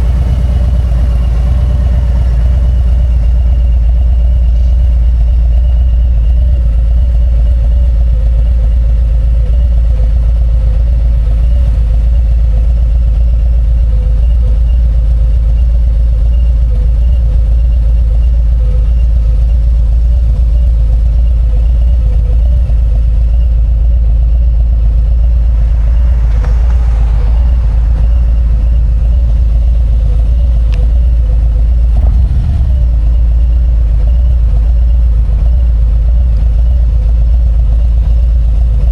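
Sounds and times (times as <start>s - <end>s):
motorcycle engine low rumble: 0.0s - 38.9s.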